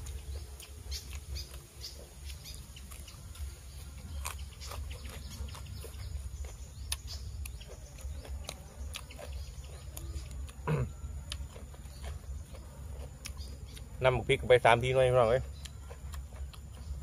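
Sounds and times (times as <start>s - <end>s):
man chewing: 0.0s - 14.4s, 15.0s - 17.0s
steady low hum: 0.0s - 17.0s.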